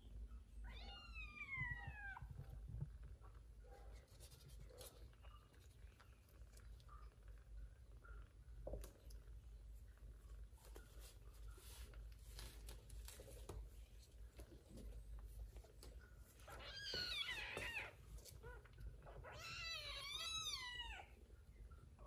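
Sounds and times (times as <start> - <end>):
faint rustling: 1.4 - 20.0.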